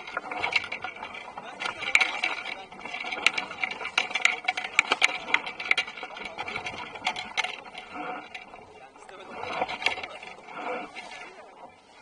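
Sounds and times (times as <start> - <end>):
sharp ticks and knocks: 0.0 - 11.4
water rushing along hull: 0.0 - 12.0.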